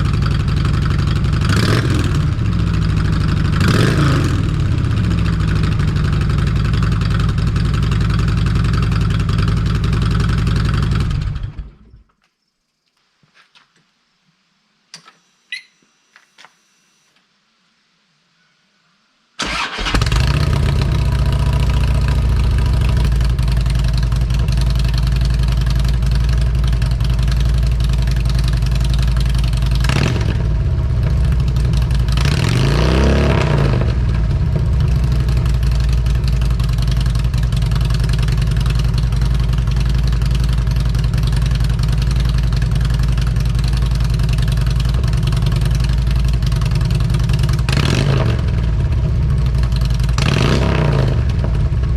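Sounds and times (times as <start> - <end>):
motorcycle engine revving: 0.0 - 11.8, 19.4 - 51.9
motorcycle engine idling: 0.0 - 11.9, 19.4 - 51.9.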